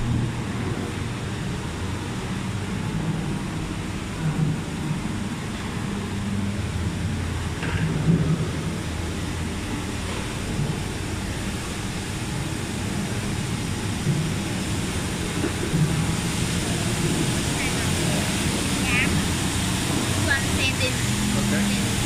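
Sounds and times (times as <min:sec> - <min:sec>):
factory machinery rumble and hum: 0:00.0 - 0:22.0.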